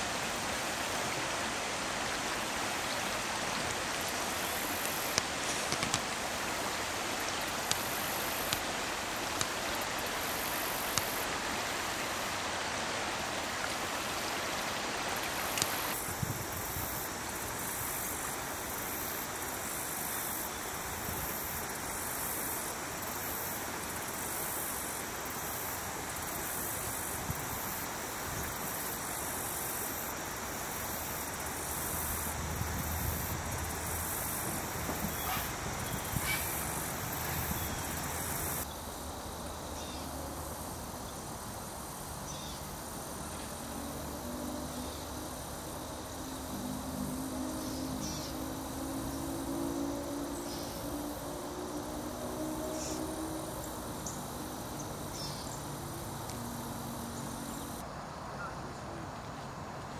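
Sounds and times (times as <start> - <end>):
water rushing in a stream: 0.0 - 58.2.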